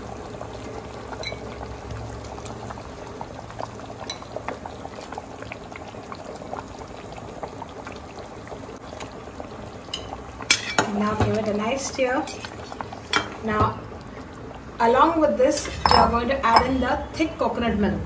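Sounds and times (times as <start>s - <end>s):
curry boiling and bubbling: 0.0s - 17.9s.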